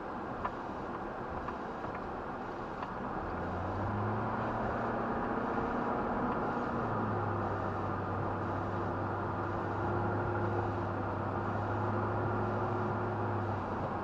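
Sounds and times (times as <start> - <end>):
road and engine noise: 0.0 - 14.0
low engine drone: 0.5 - 14.0.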